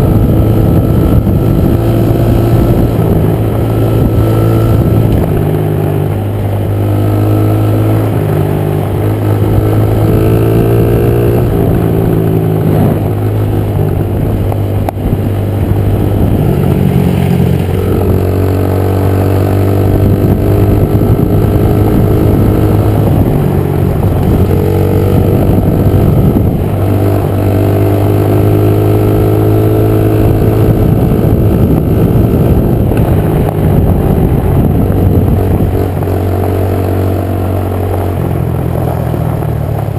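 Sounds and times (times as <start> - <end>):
small motorbike engine revving: 0.0 - 39.9.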